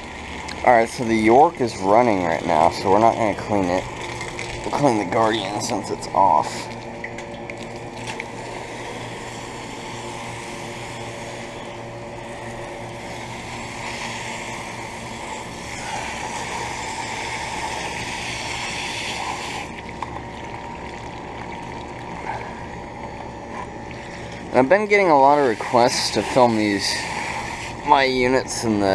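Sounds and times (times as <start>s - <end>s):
air conditioner humming: 0.0s - 28.9s.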